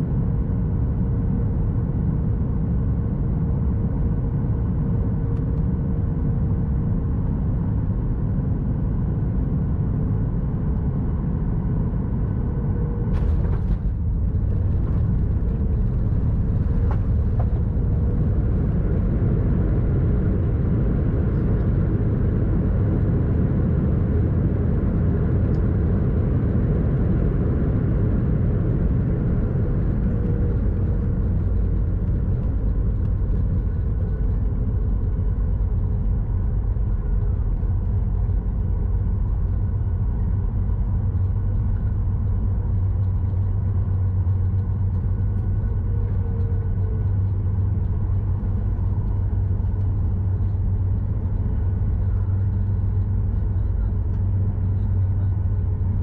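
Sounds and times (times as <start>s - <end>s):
aircraft cabin engine rumble: 0.0s - 56.0s
faint steady hum: 0.0s - 56.0s.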